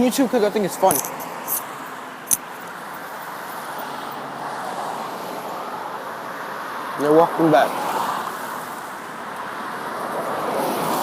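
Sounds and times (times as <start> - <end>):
road traffic hiss: 0.0 - 11.0.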